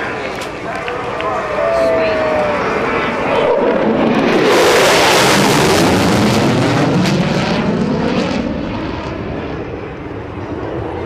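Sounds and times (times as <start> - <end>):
jet passing overhead: 0.0 - 11.0.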